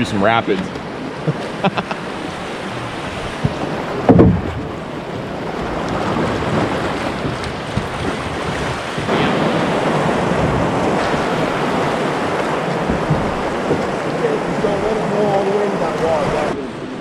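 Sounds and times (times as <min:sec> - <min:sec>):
river rapids rushing: 0:00.0 - 0:17.0
wind buffeting microphone: 0:00.0 - 0:17.0.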